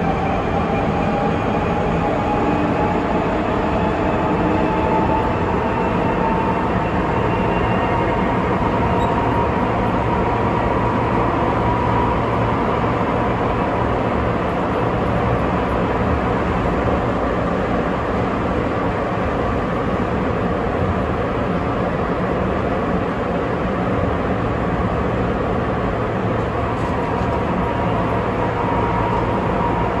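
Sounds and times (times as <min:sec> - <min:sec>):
rumble of train tyres: 0:00.0 - 0:30.0.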